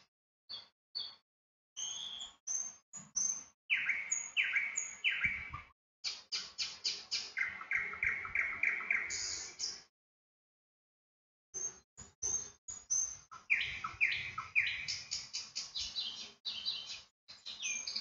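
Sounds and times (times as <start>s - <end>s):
small bird chirping: 0.5s - 1.2s, 1.8s - 9.9s, 11.6s - 18.0s.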